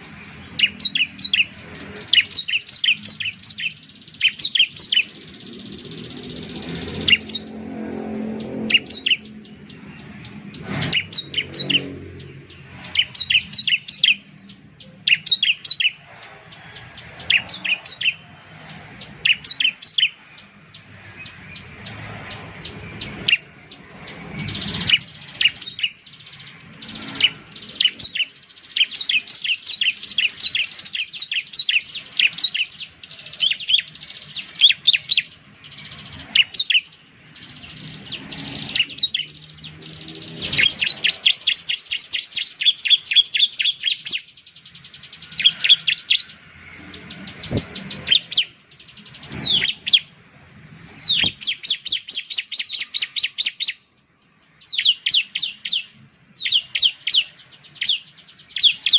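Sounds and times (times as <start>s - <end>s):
bird singing high chirps: 0.0s - 58.9s.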